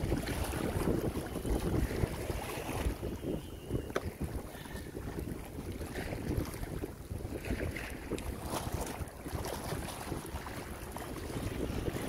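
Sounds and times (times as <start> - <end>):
water lapping: 0.0 - 12.0
wind buffeting microphone: 0.0 - 12.0.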